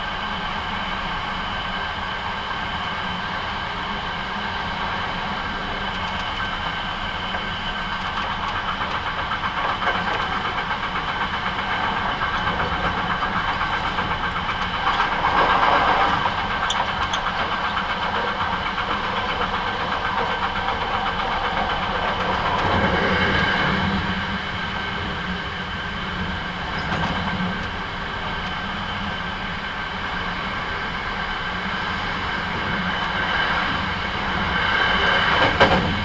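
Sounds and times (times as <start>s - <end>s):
high whining train tones: 0.0s - 36.0s
train wheels rumbling on rail: 0.0s - 36.0s.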